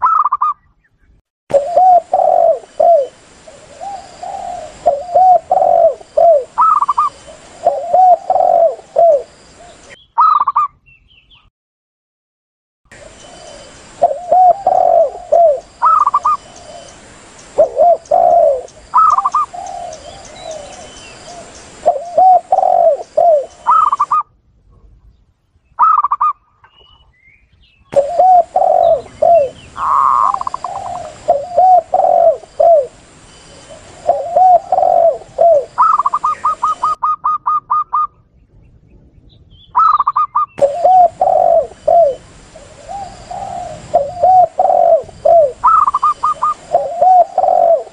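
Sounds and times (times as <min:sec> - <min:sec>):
higher-pitched dove calls: 0:00.0 - 0:00.6, 0:01.5 - 0:10.8, 0:12.9 - 0:24.3, 0:25.8 - 0:26.9, 0:27.9 - 0:38.3, 0:39.7 - 0:47.9
dove cooing low: 0:01.5 - 0:10.6, 0:12.9 - 0:24.2, 0:28.0 - 0:38.3, 0:39.8 - 0:47.9.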